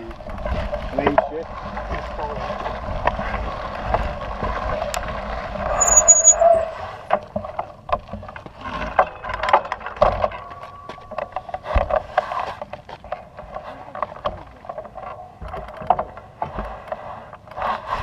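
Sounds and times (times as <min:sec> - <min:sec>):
bike rattling clicks and knocks: 0:00.0 - 0:06.0, 0:07.0 - 0:17.5
tyre and riding noise rushing: 0:00.0 - 0:18.0.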